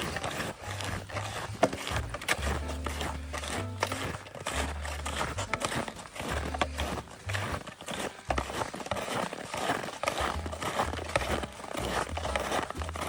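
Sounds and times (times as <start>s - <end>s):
boots crunching on snow: 0.0s - 13.0s.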